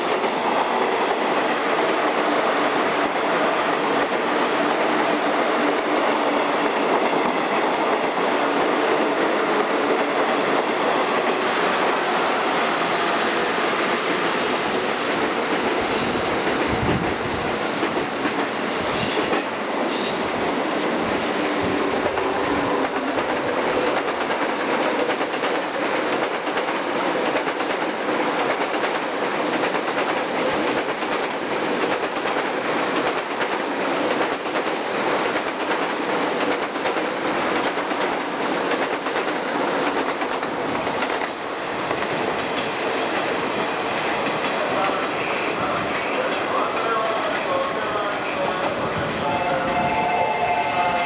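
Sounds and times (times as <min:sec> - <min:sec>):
train wheels clickety-clack: 0:00.0 - 0:47.6.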